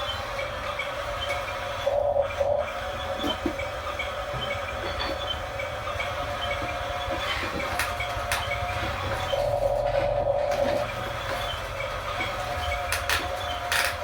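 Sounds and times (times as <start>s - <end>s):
gears clicking: 0.0s - 14.0s
small electric motors whining: 0.0s - 14.0s.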